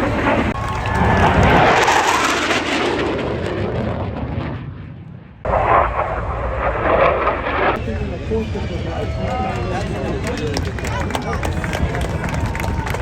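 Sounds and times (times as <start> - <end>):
airplane passing by: 0.0 - 13.0.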